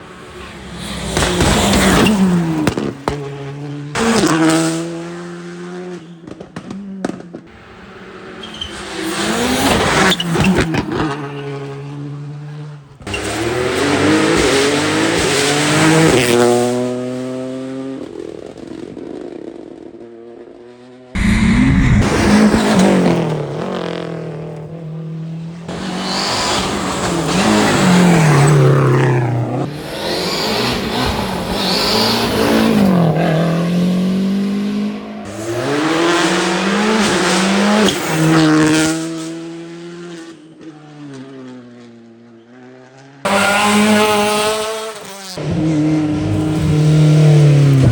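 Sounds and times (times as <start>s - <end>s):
rally cars revving past: 0.0s - 18.9s, 20.6s - 47.9s.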